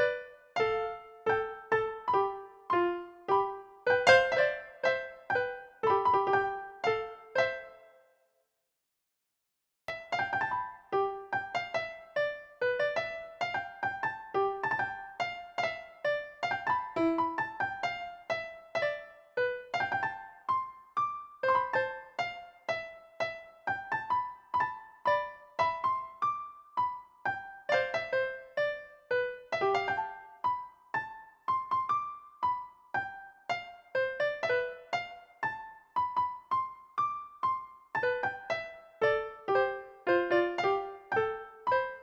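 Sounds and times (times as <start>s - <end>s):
gentle electric piano tune: 0.0s - 7.9s, 9.9s - 42.0s.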